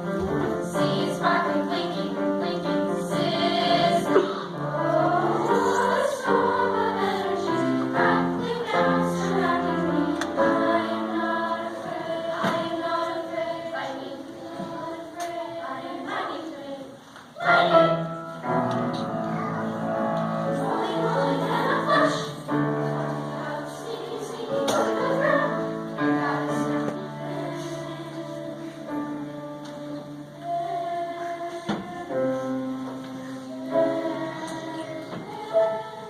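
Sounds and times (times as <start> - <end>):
choir singing: 0.0 - 36.0
musical accompaniment: 0.0 - 36.0.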